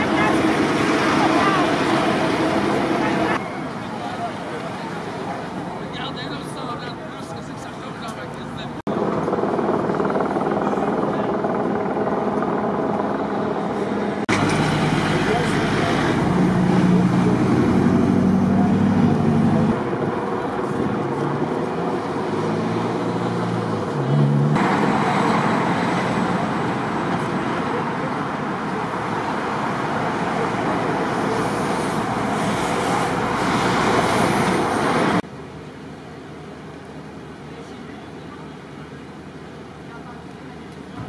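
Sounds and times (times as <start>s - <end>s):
car tyre and engine noise: 0.0s - 41.0s.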